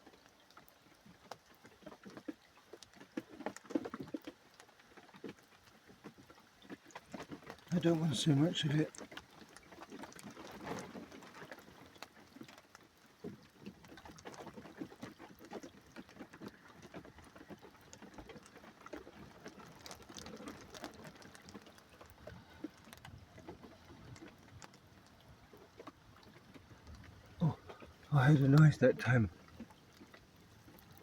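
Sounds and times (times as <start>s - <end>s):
faint patter of raindrops: 0.0s - 31.0s.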